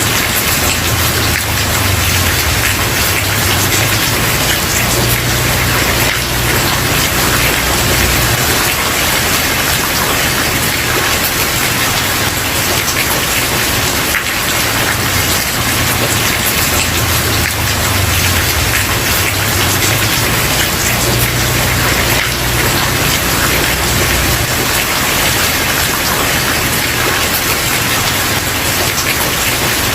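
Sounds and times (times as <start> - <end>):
rain on a wooden porch: 0.0 - 29.9.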